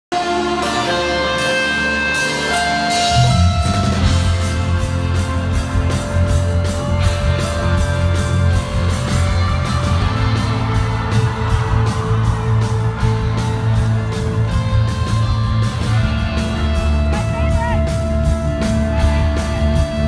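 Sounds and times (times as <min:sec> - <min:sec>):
live rock band playing: 0:00.1 - 0:20.0.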